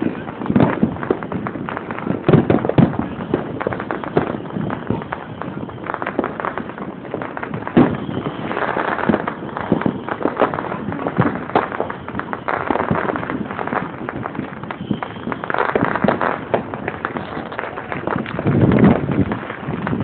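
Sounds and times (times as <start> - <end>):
fireworks crackling and popping: 0.0 - 20.0
loud firework bang: 0.0 - 20.0.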